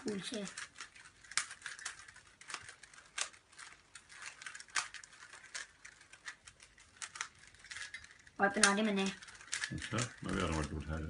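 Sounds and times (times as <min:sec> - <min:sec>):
plastic puzzle cube clicking: 0:00.0 - 0:11.0.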